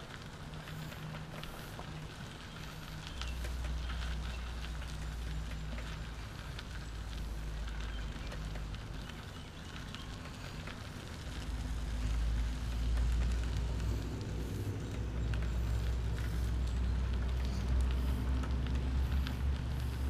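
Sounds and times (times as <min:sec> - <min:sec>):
wheels rolling over path: 0:00.0 - 0:20.0
wind rumbling on microphone: 0:00.0 - 0:20.0.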